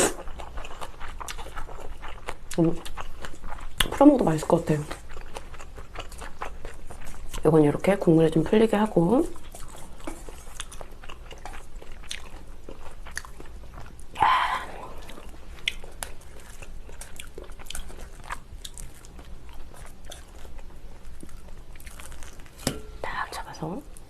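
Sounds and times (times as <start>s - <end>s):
person chewing and crunching food: 0.0s - 23.2s.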